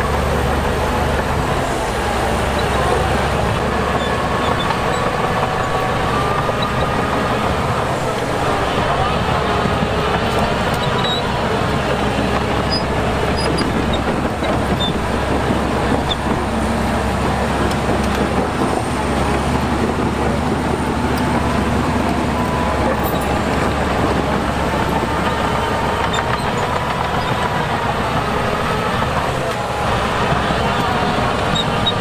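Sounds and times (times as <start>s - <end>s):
diesel machinery engine drone: 0.0s - 32.0s.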